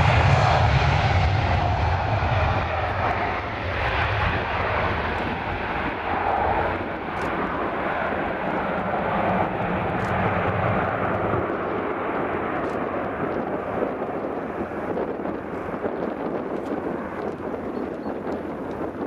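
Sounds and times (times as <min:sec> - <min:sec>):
jet engines at takeoff: 0:00.0 - 0:19.0.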